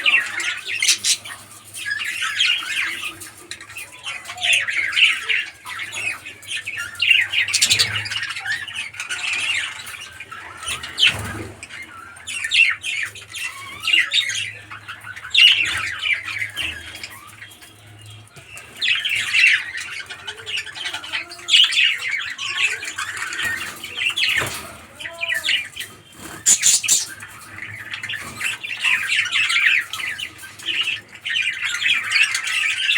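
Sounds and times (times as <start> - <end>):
birds chattering and squawking: 0.0 - 32.9.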